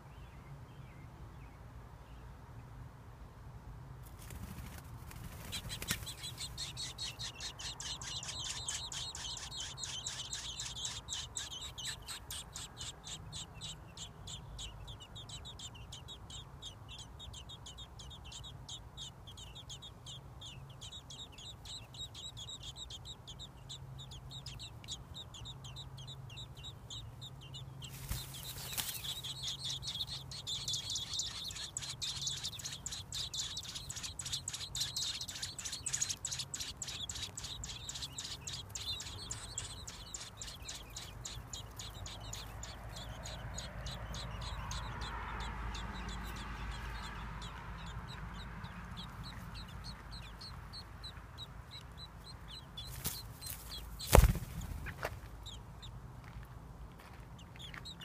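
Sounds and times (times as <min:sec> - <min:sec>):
nestlings begging chirps: 0:04.2 - 0:56.0, 0:57.2 - 0:58.0.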